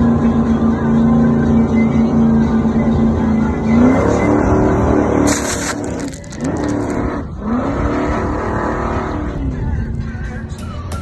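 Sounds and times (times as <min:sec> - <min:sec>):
powerboat engines running hard: 0:00.0 - 0:10.5.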